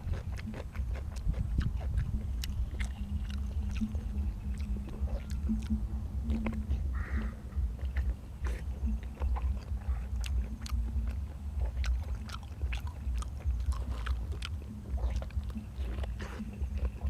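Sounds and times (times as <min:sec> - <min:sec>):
chewing mouth clicks and smacks: 0:00.0 - 0:17.0
steady low rumble: 0:00.0 - 0:17.0.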